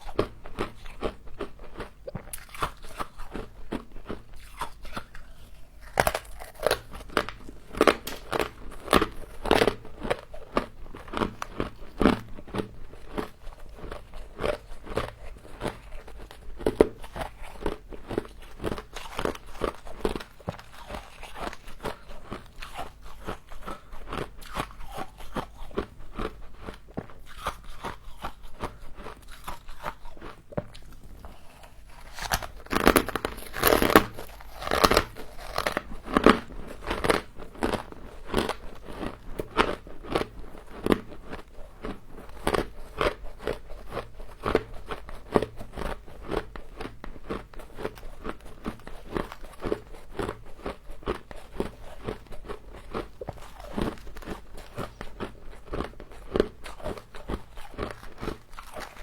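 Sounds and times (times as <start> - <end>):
frost being chewed crunching: 0.0 - 59.0.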